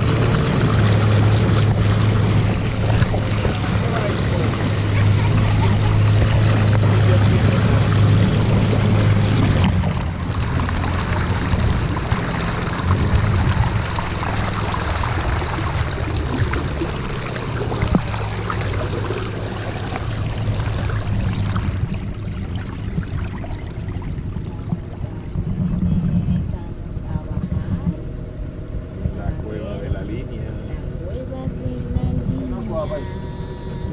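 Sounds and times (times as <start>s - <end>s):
boat engine hum: 0.0s - 33.9s
water rushing along hull: 0.0s - 33.9s.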